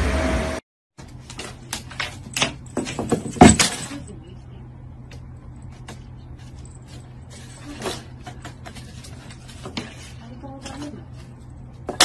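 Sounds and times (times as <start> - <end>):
steady low hum: 1.0 - 12.0.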